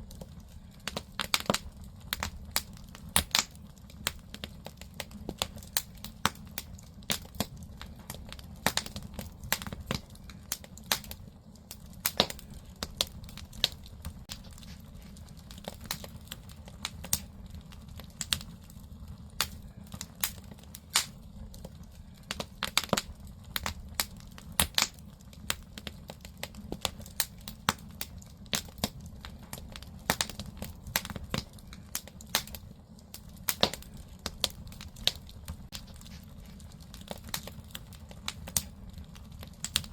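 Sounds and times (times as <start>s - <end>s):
burning logs popping and crackling: 0.0s - 39.9s
low rumble of fire: 0.0s - 39.9s.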